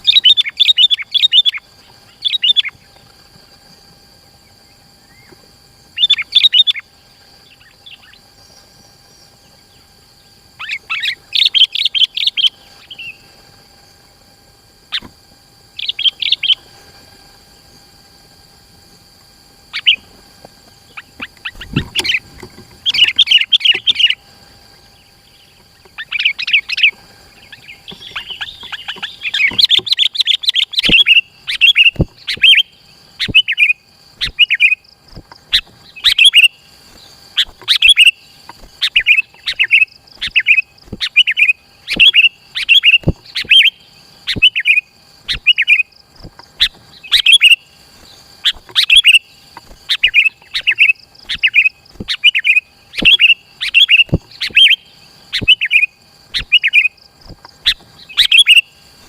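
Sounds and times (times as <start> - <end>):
bird chirping: 0.0 - 3.6, 4.4 - 13.3, 14.9 - 16.8, 19.6 - 20.1, 20.8 - 34.8, 35.4 - 58.8
bird chatter: 0.0 - 18.0, 19.0 - 59.0.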